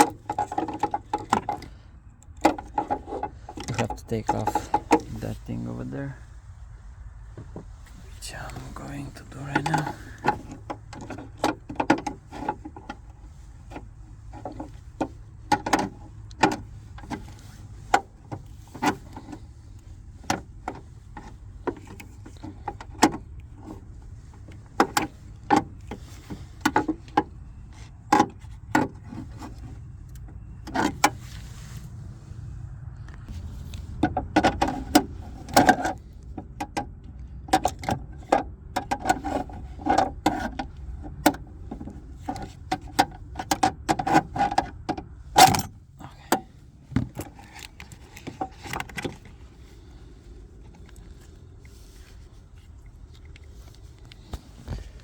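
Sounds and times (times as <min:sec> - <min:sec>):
clicks and rattles of car trim: 0:00.0 - 0:06.1, 0:07.2 - 0:31.8, 0:33.2 - 0:55.0
low steady hum: 0:00.0 - 0:55.0.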